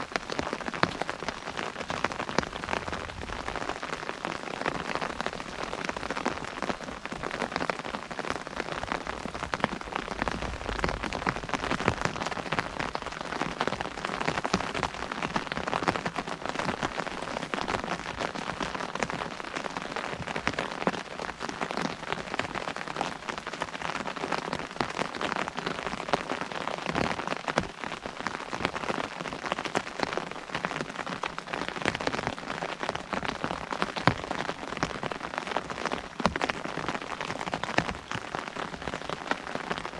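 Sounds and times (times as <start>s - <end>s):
rain pattering on umbrella: 0.0s - 39.9s.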